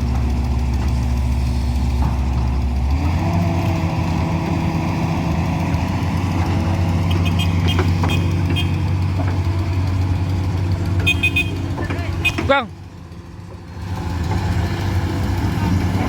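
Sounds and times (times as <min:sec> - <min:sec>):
motor vehicle engine running: 0:00.0 - 0:16.0.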